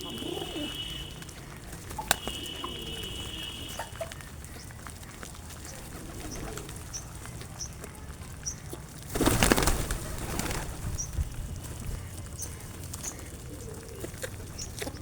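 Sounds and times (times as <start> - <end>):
pigeons flapping wings: 0.0 - 14.6
small birds chirping: 0.0 - 15.0.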